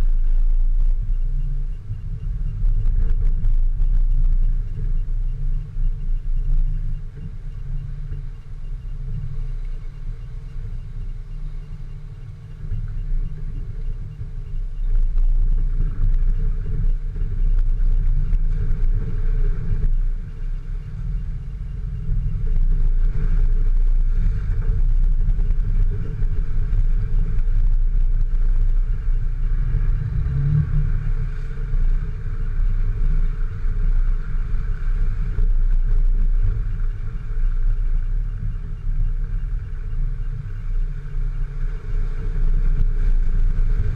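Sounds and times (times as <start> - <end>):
vehicle engine low rumble: 0.0 - 43.9.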